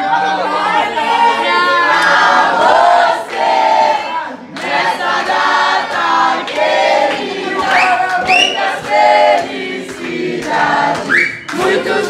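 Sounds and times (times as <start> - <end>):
young people singing together: 0.0 - 12.0.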